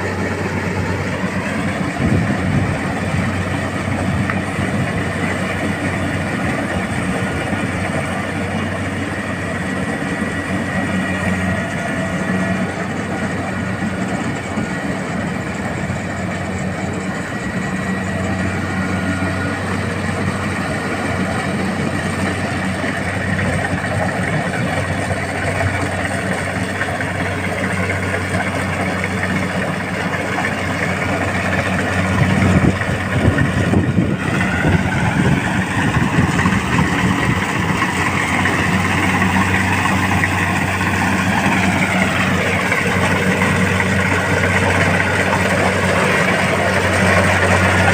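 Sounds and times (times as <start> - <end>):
combine harvester engine hum: 0.0 - 47.9
high machine whine: 0.0 - 47.9.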